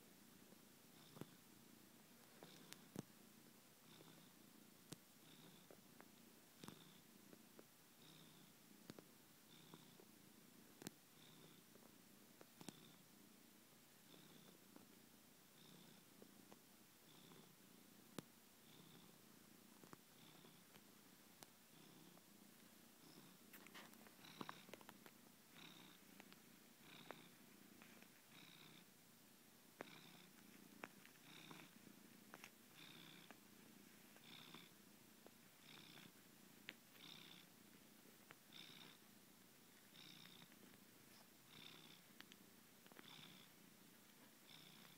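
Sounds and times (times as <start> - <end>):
cat purring: 0.0 - 29.1, 29.7 - 44.9.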